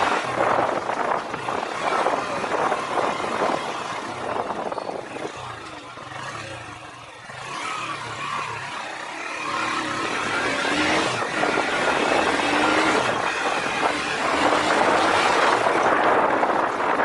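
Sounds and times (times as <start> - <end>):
motorcycle engine: 0.0 - 17.0
wind and road noise: 0.0 - 17.0.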